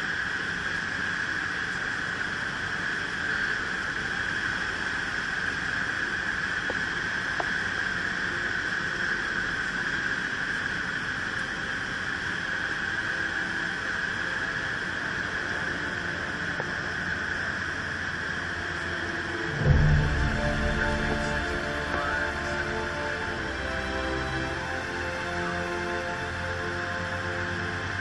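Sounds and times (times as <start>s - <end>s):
airflow over cabin: 0.0s - 28.0s
light aircraft engine and propeller: 0.0s - 28.0s.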